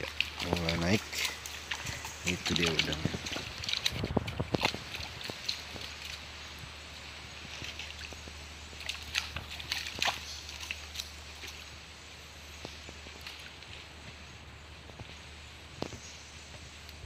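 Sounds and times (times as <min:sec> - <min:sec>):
steady low hum: 0:00.0 - 0:17.0
water splashes and drips: 0:00.0 - 0:17.0.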